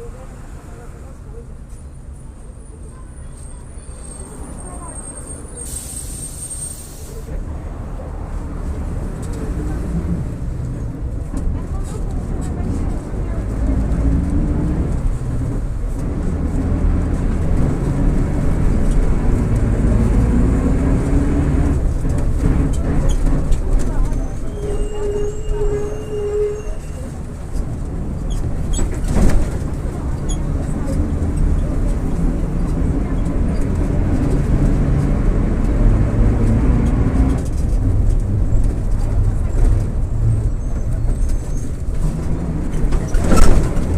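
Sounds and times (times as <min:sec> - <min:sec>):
bus diesel engine running: 0:00.0 - 0:43.9
road noise: 0:00.0 - 0:43.9.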